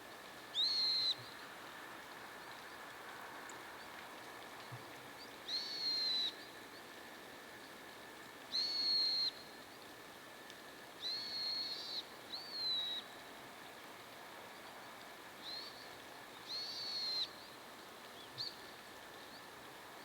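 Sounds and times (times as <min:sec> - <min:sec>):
light rain hiss: 0:00.0 - 0:20.0.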